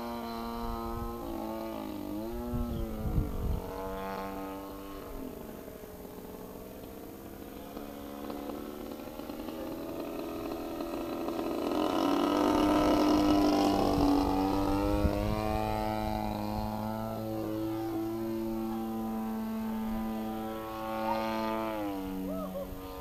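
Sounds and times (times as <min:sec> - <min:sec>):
model plane engine and propeller: 0:00.0 - 0:23.0.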